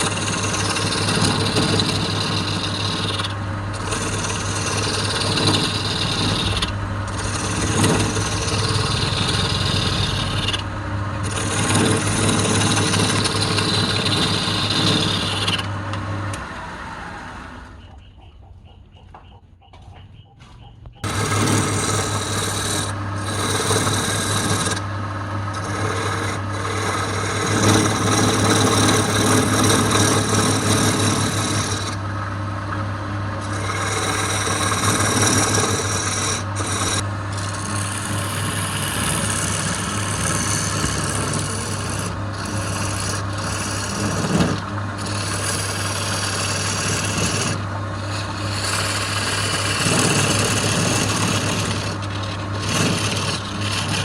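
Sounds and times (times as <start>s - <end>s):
wood lathe tool rasping wood: 0.0s - 17.7s, 21.0s - 54.0s
lathe motor hum: 0.0s - 17.8s, 21.0s - 54.0s.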